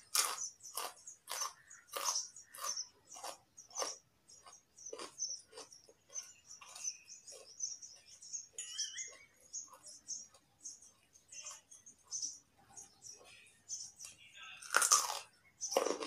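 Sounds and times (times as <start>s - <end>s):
carrot crunching while chewed: 0.0s - 12.1s, 14.6s - 16.0s.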